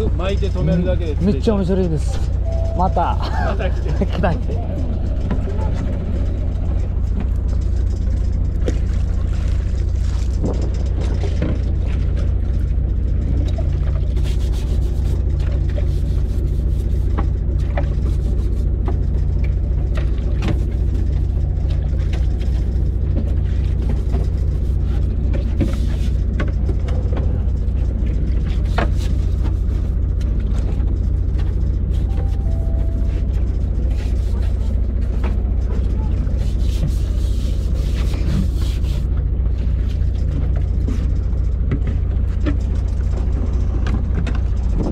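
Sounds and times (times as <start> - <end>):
boat engine humming: 0.0 - 44.9.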